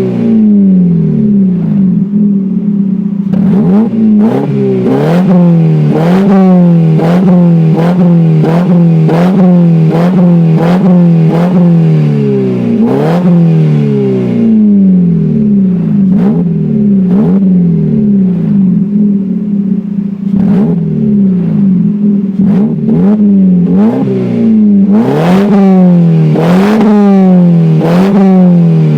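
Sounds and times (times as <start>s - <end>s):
car engine blipping: 0.0s - 28.9s.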